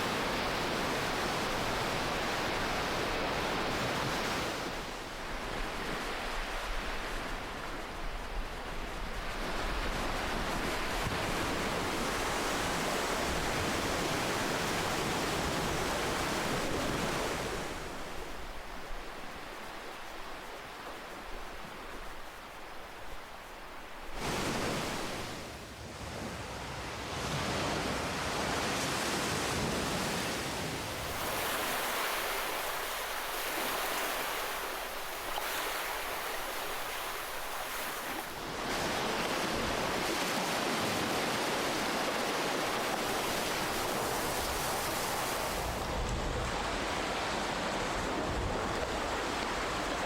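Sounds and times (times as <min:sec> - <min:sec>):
ocean waves breaking on shore: 0:00.0 - 0:50.0.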